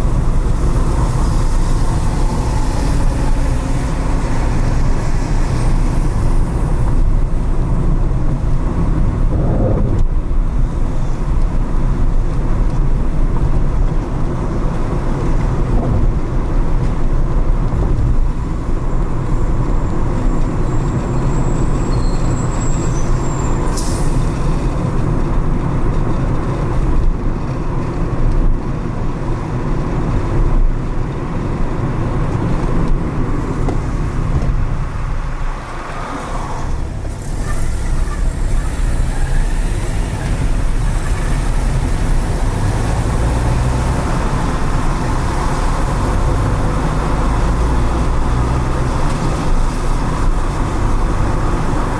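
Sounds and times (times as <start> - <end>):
car driving rumble: 0.0 - 51.9.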